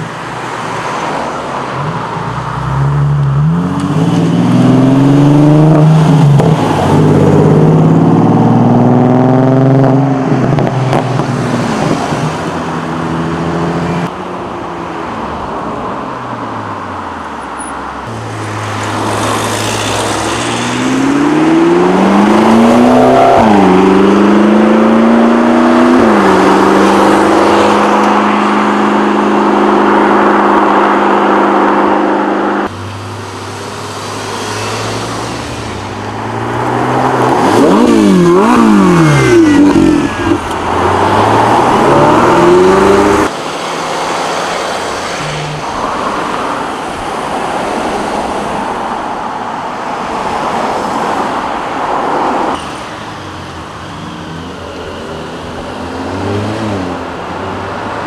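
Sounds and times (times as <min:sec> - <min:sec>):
sports car engines accelerating: 0:01.7 - 0:14.2, 0:17.9 - 0:48.8, 0:52.2 - 0:58.0.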